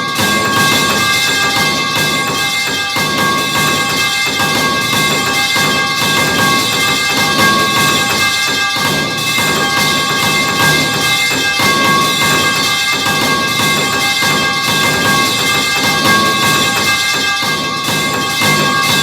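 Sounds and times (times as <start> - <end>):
steady metallic ringing: 0.0 - 19.0.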